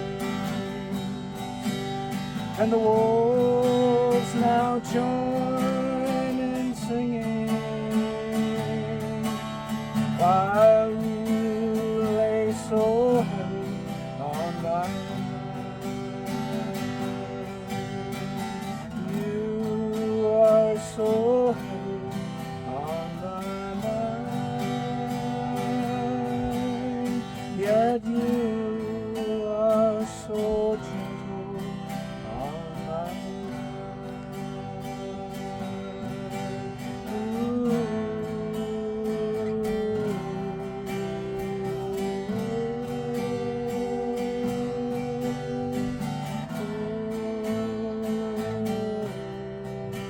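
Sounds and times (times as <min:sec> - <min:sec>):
acoustic guitar strumming: 0:00.0 - 0:50.0
person singing wavering notes: 0:00.0 - 0:50.0.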